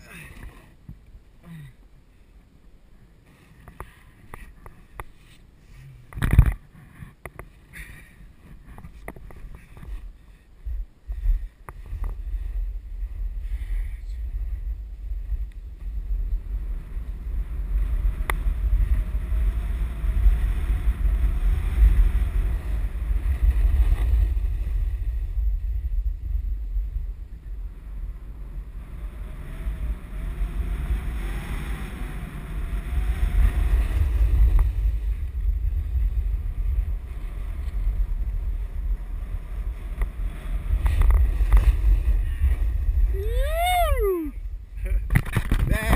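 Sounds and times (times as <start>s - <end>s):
wind buffeting microphone: 8.4s - 45.9s.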